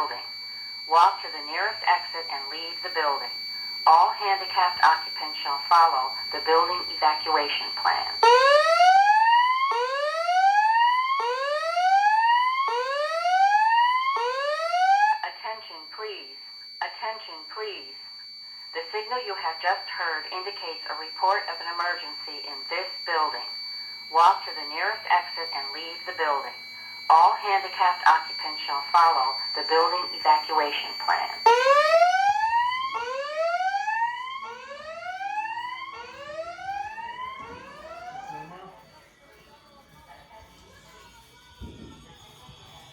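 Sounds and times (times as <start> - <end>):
fire alarm whoop tone: 0.0 - 39.5.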